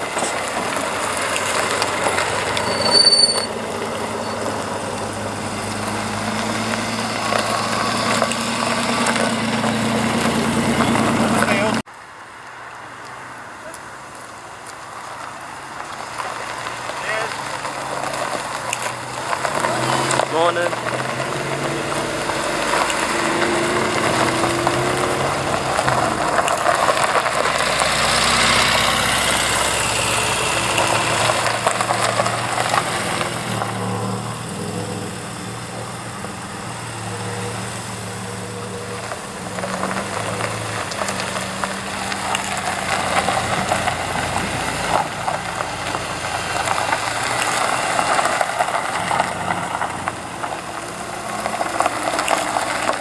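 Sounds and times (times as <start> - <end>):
cars driving slowly past: 0.0 - 53.0.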